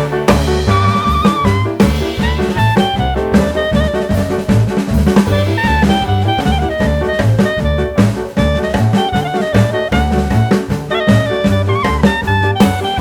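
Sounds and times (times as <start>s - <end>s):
upbeat jazz music: 0.0s - 13.0s.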